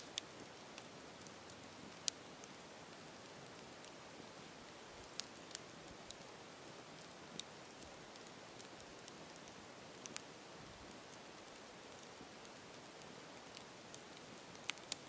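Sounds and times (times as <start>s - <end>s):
campfire hissing and crackling: 0.0s - 15.0s.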